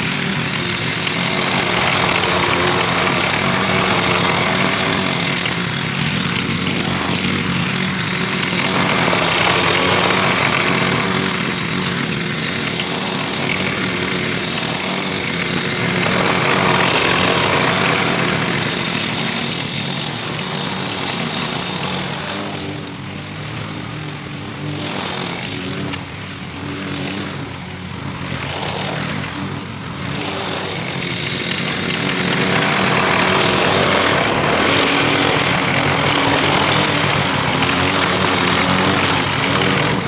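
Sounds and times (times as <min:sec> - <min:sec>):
lawn mower engine running: 0:00.0 - 0:40.0.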